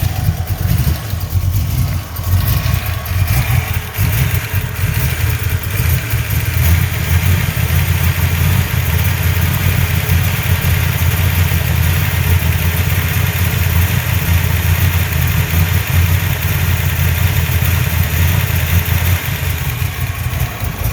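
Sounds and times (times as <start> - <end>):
engine idling with misfire: 0.0 - 20.9.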